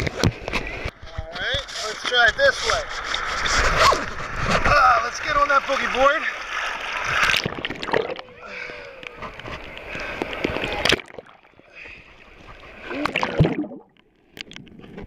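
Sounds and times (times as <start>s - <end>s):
seawater splashing: 1.6s - 14.0s.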